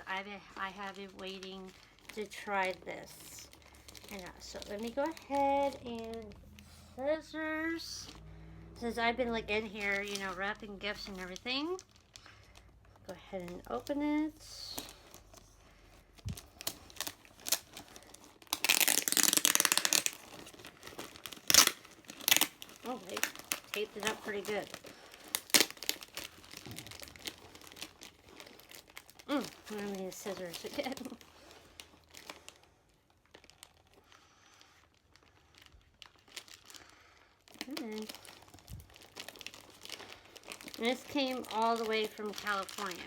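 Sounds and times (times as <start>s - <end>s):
plastic packaging crinkling: 0.0s - 8.3s, 9.0s - 43.0s.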